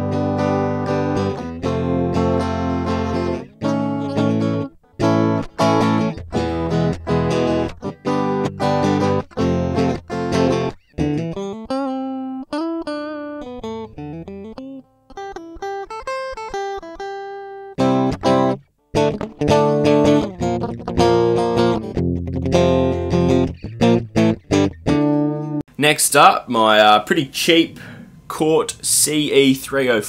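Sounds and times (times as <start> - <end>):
electric guitar playing: 0.0 - 25.6.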